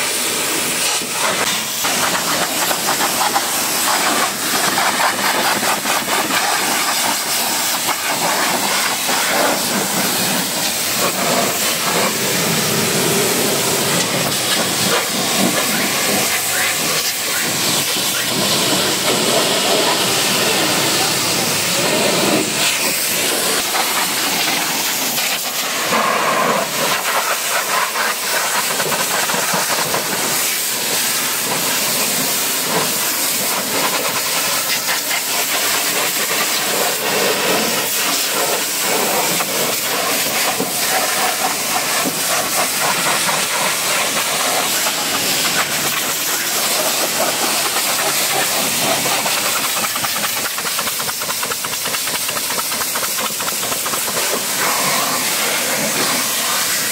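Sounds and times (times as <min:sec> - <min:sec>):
pressure washer jet hissing: 0:00.0 - 0:56.9.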